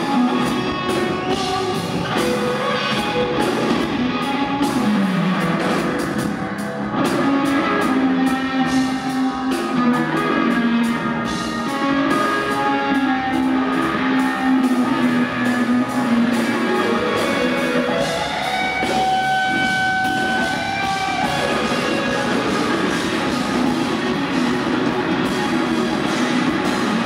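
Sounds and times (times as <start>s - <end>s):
drums and cymbals: 0.0s - 27.0s
electric guitar held notes: 0.0s - 27.0s.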